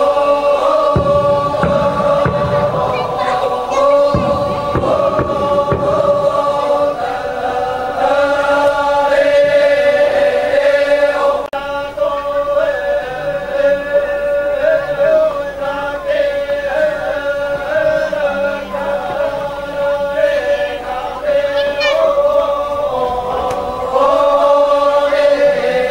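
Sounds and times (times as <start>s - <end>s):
group chanting held notes: 0.0s - 25.9s.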